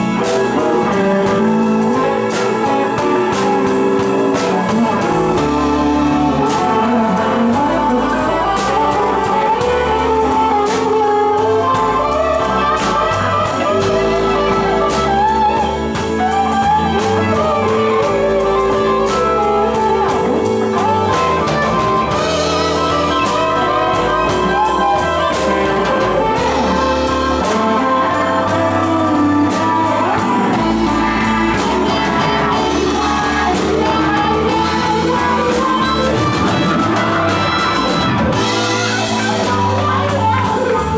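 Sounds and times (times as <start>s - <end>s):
drums steady beat: 0.0s - 40.9s
electric guitar: 0.0s - 40.9s
keyboard: 0.0s - 40.9s.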